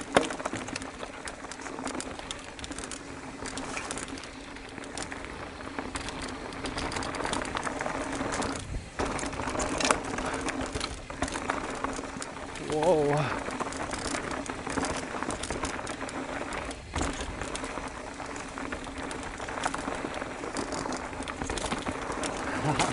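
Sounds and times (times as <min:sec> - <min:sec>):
bike rattling and clicking: 0:00.0 - 0:22.9
bike tires grinding over rock: 0:00.0 - 0:22.9.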